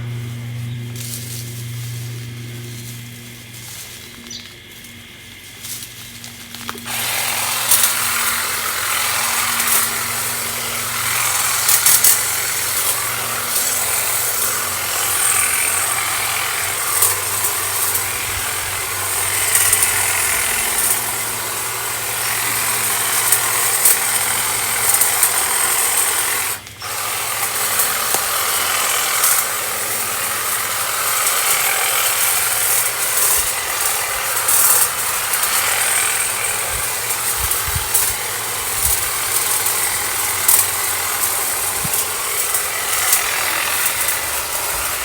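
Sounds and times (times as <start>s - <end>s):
powered hedge trimmer running: 0.0s - 45.0s.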